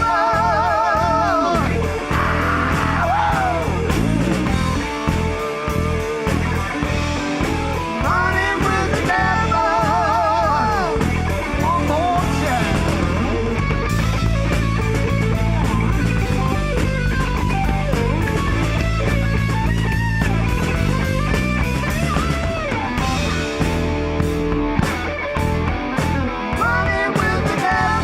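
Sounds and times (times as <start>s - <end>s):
lead electric guitar bending notes: 0.0s - 28.0s
rock band playing: 0.0s - 28.0s.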